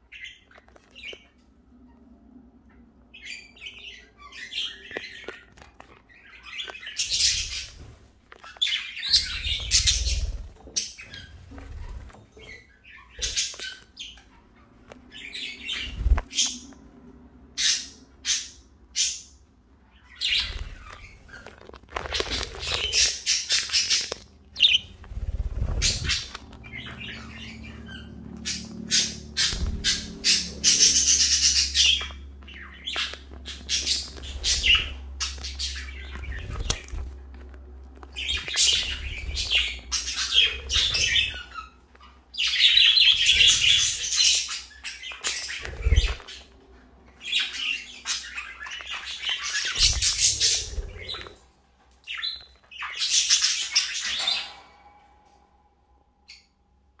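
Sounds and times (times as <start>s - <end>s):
budgerigars chirping and chattering: 0.0s - 2.0s, 2.6s - 16.9s, 17.6s - 54.8s.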